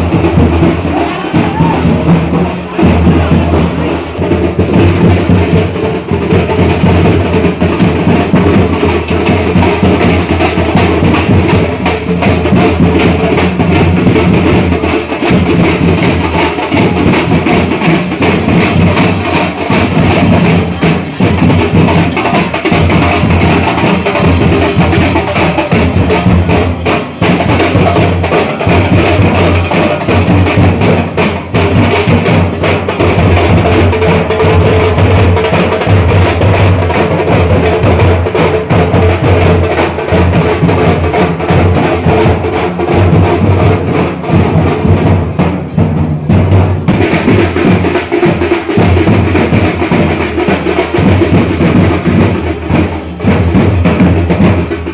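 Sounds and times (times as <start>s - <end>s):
percussion ensemble drumming: 0.0s - 54.9s.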